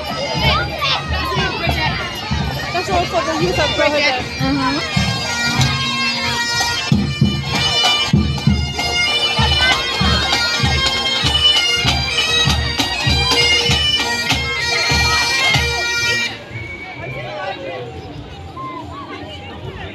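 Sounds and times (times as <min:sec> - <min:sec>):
bagpipes playing a melody: 0:00.0 - 0:16.6
marching drums: 0:00.0 - 0:17.2.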